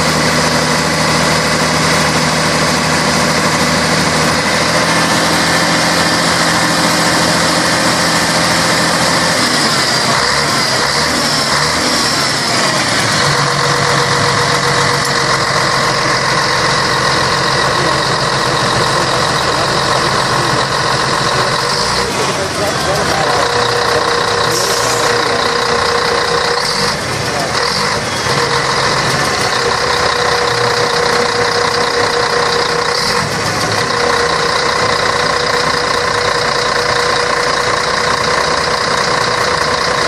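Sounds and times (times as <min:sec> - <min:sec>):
diesel bus engine running: 0:00.0 - 0:40.0.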